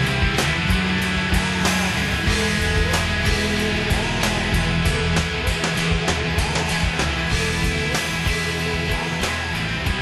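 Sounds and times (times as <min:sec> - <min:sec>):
drums beating: 0:00.0 - 0:10.0
rock band playing: 0:00.0 - 0:10.0.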